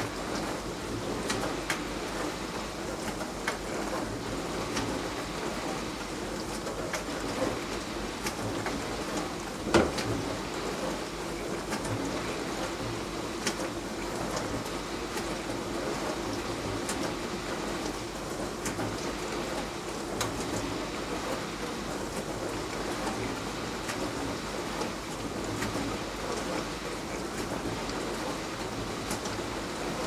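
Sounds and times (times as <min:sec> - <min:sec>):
wash pump humming: 0:00.0 - 0:30.0.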